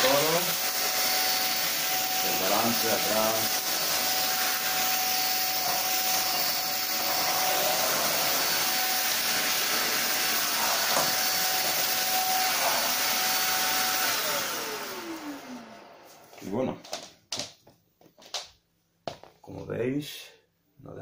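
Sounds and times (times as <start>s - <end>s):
vacuum cleaner running: 0.0s - 17.1s.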